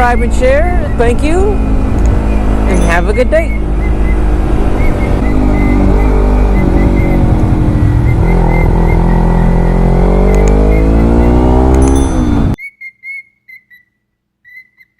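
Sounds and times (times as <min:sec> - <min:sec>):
motorcycle engine running: 0:00.0 - 0:12.6
wind noise: 0:00.0 - 0:12.6.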